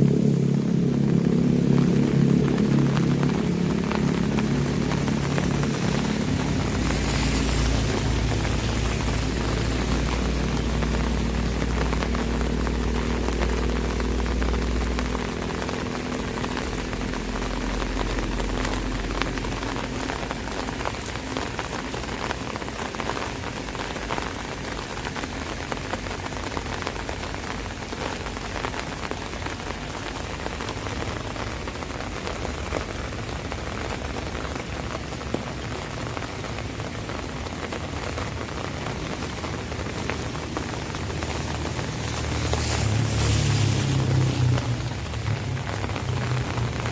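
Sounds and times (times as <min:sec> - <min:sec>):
rain on an umbrella: 0:00.0 - 0:46.9.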